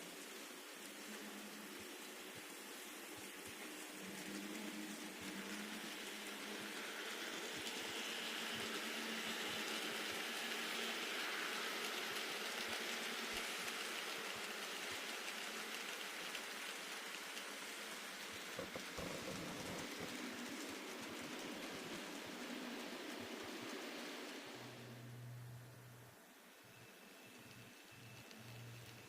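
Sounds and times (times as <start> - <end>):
model train whirring on track: 0.0 - 29.0.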